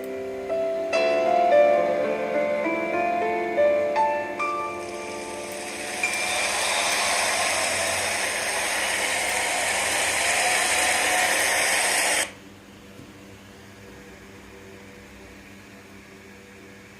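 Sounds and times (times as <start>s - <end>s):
noisy mechanical whir: 0.0s - 16.9s.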